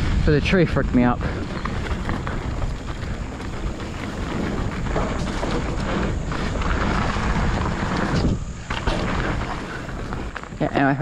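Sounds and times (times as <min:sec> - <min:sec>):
heavy low rumble: 0:00.0 - 0:11.0
wind buffeting microphone: 0:00.0 - 0:11.0
bike knocks and rattles: 0:00.9 - 0:11.0.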